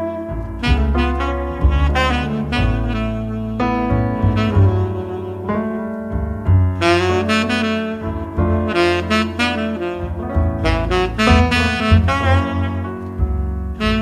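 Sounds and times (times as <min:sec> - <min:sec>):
jazz music: 0:00.0 - 0:14.0.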